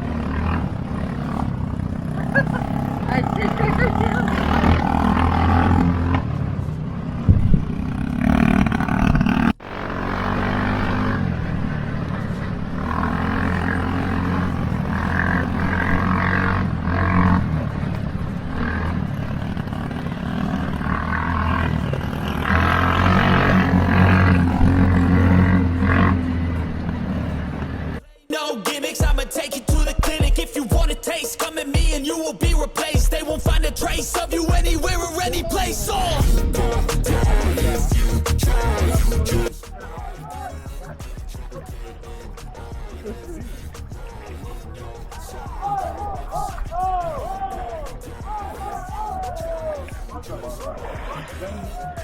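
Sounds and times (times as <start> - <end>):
vehicle engine revving: 0.0 - 28.0, 31.4 - 52.0.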